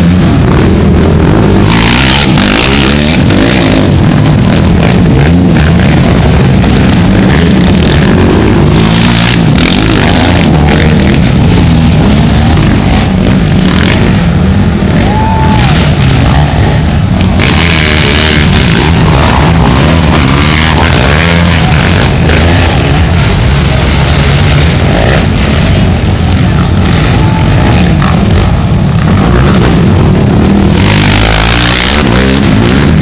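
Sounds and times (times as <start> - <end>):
racing atv engines revving: 0.0 - 33.0.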